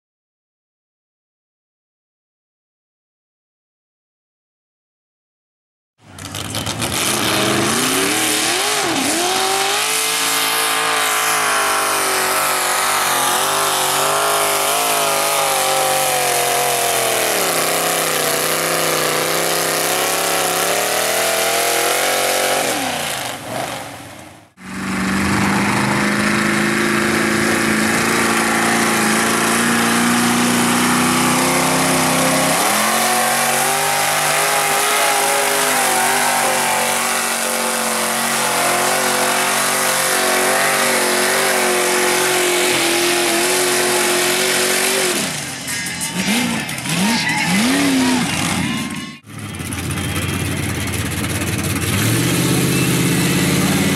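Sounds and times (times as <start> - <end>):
truck engine at high revs: 6.0 - 53.9
truck engines revving: 6.0 - 53.9.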